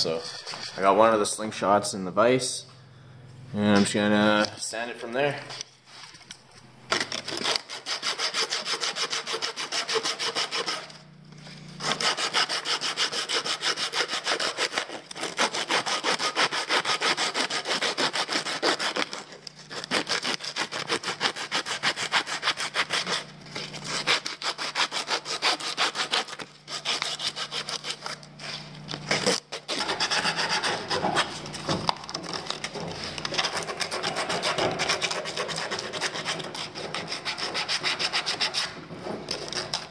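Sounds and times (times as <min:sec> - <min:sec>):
sandpaper rubbing on wood: 0:00.0 - 0:01.0, 0:07.3 - 0:11.0, 0:11.8 - 0:31.7, 0:32.3 - 0:39.9.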